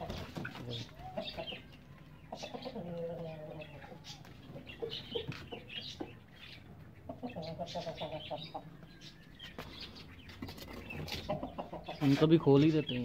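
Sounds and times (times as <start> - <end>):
hens clucking: 0.0 - 13.0
high chirping calls: 0.4 - 13.0.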